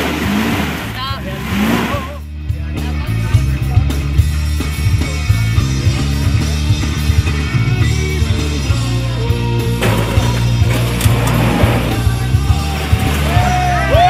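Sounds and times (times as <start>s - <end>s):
rock music with heavy bass: 0.0s - 14.0s.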